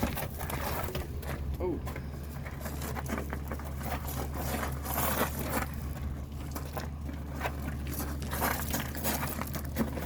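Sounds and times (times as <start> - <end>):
feet shuffling on gravel: 0.0 - 10.0
steady low hum: 0.0 - 10.0.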